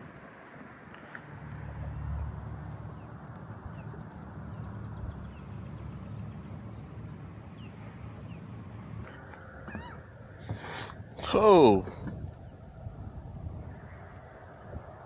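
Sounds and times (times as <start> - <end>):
wind buffeting microphone: 1.3 - 15.0.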